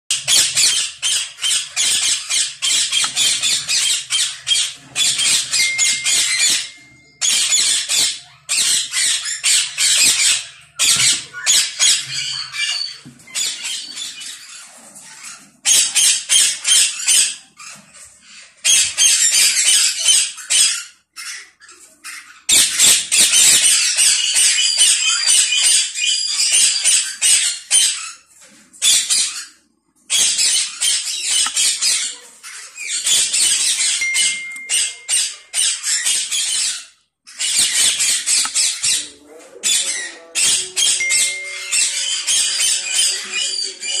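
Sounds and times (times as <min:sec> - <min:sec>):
parakeets screeching: 0:00.1 - 0:44.0.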